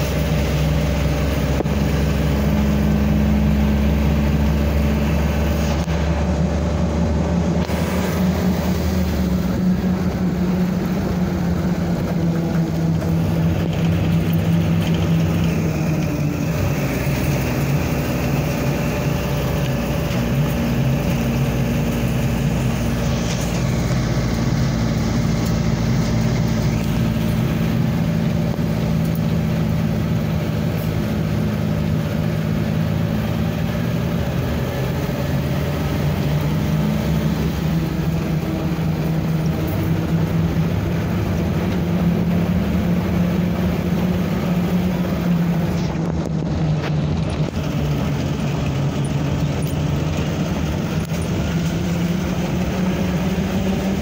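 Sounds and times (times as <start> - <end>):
road noise: 0.0 - 54.0
truck engine running: 0.0 - 54.0.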